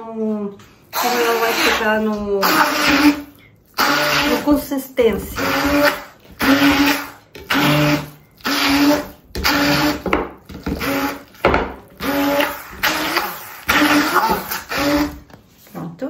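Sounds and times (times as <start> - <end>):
hand blender motor whine: 1.0 - 15.3.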